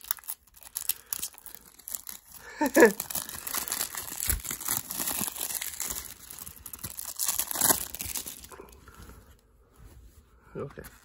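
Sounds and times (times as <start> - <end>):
plastic wrap crinkling and tearing: 0.0 - 9.0.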